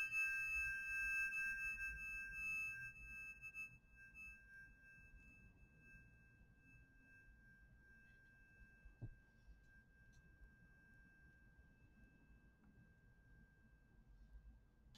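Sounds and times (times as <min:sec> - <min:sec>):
tuning fork ringing: 0:00.0 - 0:14.0.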